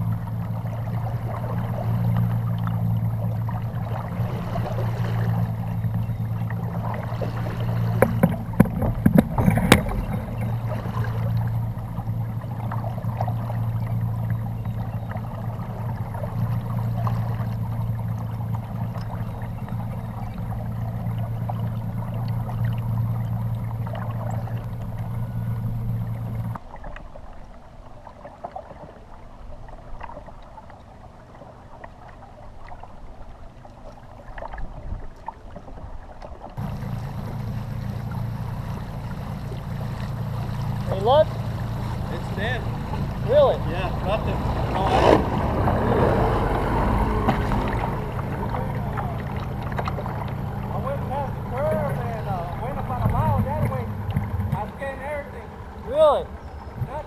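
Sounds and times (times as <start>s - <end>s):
trolling motor humming: 0.0s - 57.0s
water lapping: 0.0s - 57.0s
water rushing along hull: 0.0s - 57.0s.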